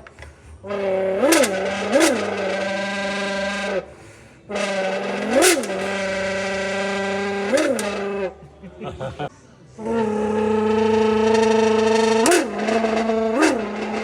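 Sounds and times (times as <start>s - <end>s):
person imitating revving engine: 0.6s - 8.4s, 9.8s - 14.0s.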